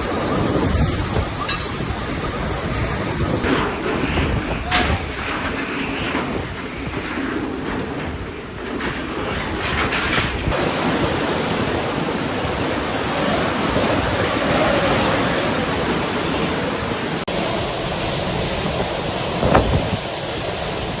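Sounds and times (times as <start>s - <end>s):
heavy rain: 0.0s - 15.0s, 17.2s - 21.0s
strong wind: 0.0s - 21.0s.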